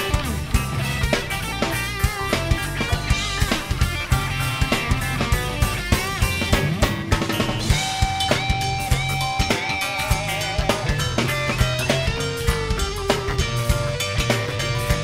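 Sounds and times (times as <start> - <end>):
bass guitar: 0.0 - 15.0
drum beat: 0.0 - 15.0
guitar lead with wavering notes: 0.0 - 15.0.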